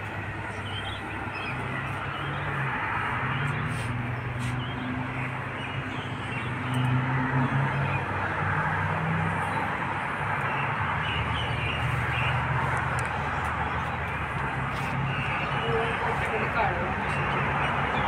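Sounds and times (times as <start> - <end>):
birds chirping and calling: 0.3 - 8.4, 9.4 - 18.0.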